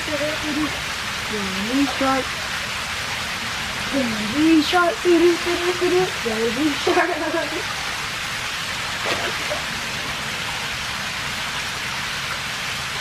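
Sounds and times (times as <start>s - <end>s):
waterfall pouring into pond: 0.0s - 13.0s.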